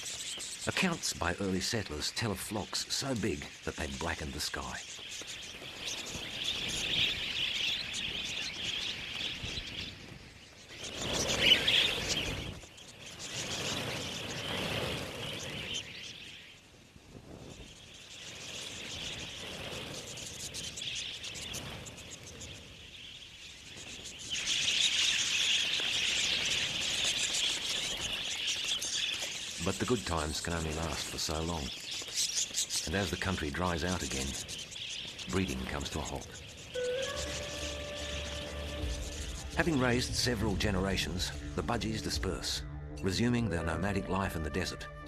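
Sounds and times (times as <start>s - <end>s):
flock of budgerigars chattering: 0.0s - 16.7s, 17.4s - 44.8s.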